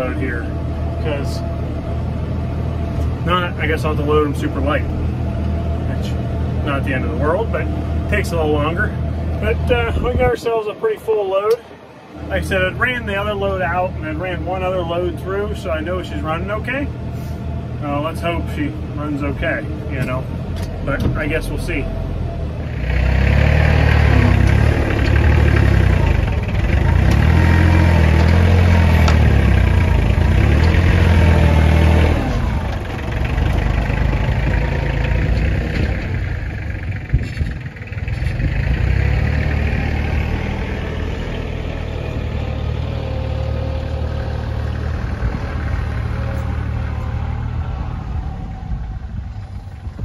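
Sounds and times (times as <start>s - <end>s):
tractor engine working: 0.0s - 50.0s.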